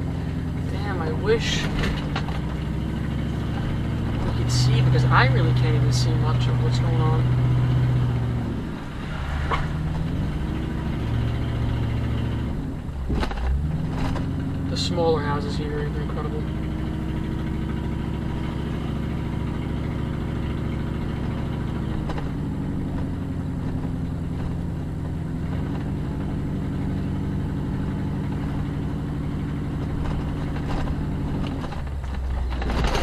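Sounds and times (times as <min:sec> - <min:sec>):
car engine hum from inside: 0:00.0 - 0:33.0.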